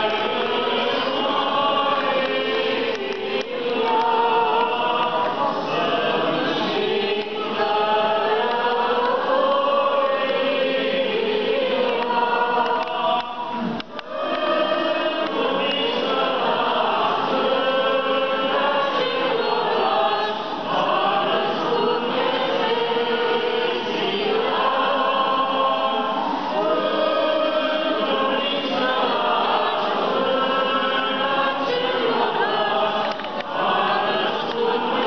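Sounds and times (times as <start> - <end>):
choir singing unaccompanied chant: 0.0 - 35.0.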